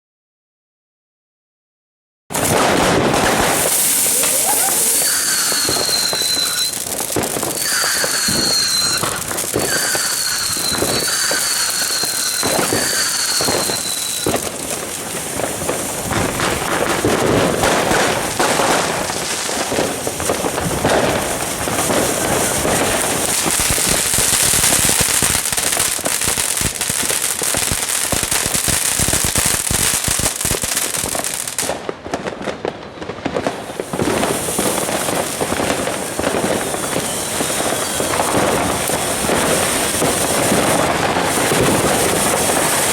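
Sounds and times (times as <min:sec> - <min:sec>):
falling firework whistles: 0:02.3 - 0:31.7, 0:33.3 - 0:42.9
fireworks crackling and bangs: 0:02.3 - 0:42.9.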